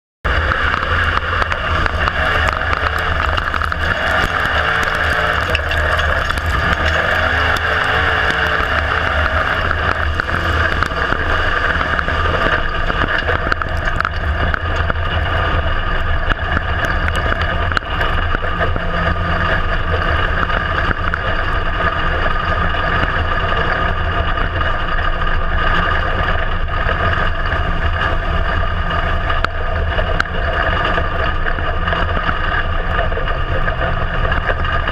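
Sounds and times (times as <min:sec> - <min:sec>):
race car engine running: 0:00.2 - 0:34.9.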